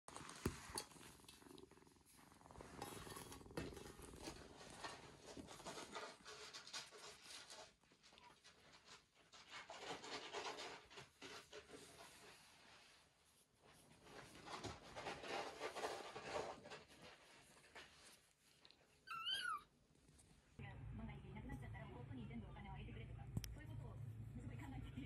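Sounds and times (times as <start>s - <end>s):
rustling of kittens play-fighting: 0.1s - 20.6s
kittens purring: 0.1s - 25.0s.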